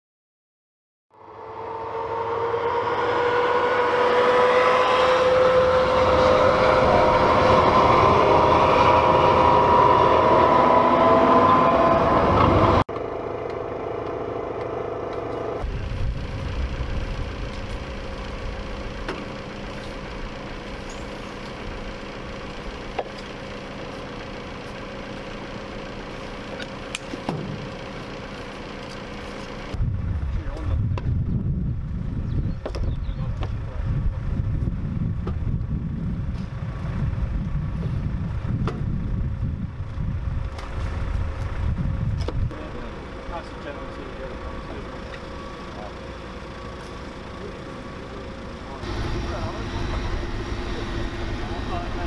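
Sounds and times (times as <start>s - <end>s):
diesel engine running: 1.2s - 52.0s
whine from tracks: 1.2s - 52.0s.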